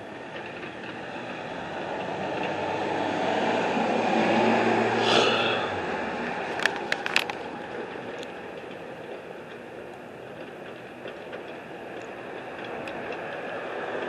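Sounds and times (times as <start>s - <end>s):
street and traffic rumble: 0.0s - 14.0s.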